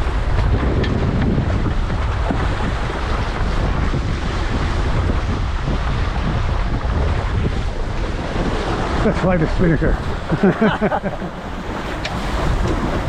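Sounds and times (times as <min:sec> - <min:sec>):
water splashing along hulls: 0:00.0 - 0:13.0
wind buffeting microphone: 0:00.0 - 0:13.0.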